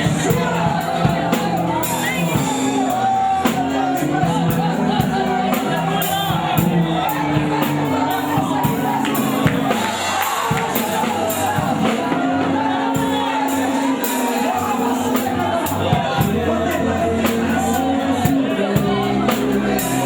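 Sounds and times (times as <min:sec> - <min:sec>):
drum kit hits: 0:00.0 - 0:20.0
gospel band playing: 0:00.0 - 0:20.0
person singing: 0:00.0 - 0:20.0.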